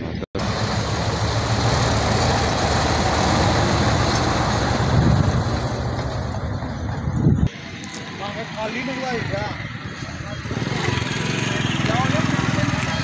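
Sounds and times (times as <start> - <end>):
dump truck driving past: 0.0 - 13.0.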